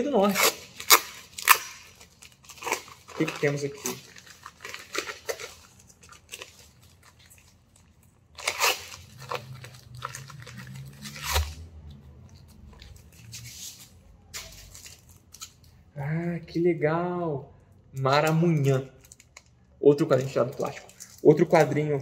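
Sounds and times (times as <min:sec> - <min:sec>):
plastic wrapping crinkling and ripping: 0:00.0 - 0:15.8, 0:18.2 - 0:22.0.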